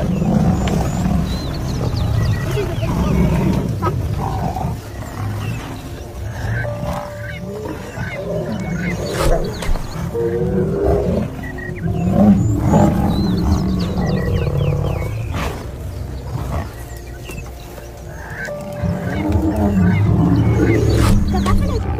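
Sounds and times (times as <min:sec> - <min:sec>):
lions growling: 0:00.0 - 0:21.9.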